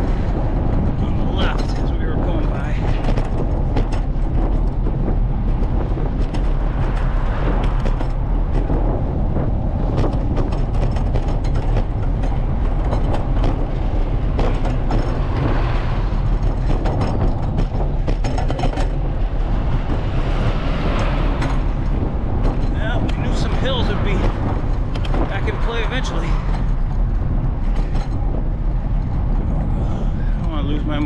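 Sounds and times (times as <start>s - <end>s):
bicycle tyres on asphalt: 0.0s - 31.0s
wind rumble: 0.0s - 31.0s.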